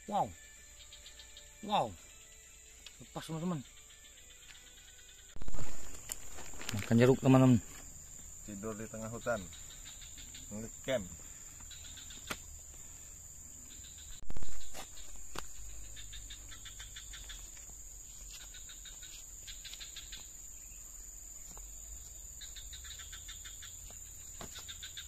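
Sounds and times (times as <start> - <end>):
high-pitched insect drone: 0.0 - 25.0
insects chirping in pulses: 0.0 - 25.0.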